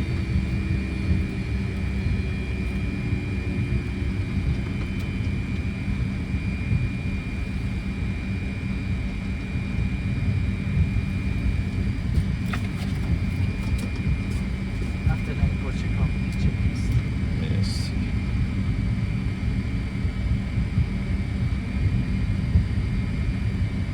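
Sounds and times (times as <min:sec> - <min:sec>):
jet engines idling rumble: 0:00.0 - 0:23.9.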